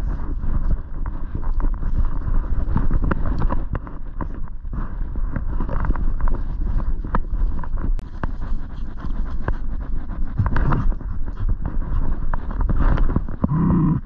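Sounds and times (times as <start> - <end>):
camera rubbing noise: 0.0 - 14.0
wind rumbling on camera: 0.0 - 14.0.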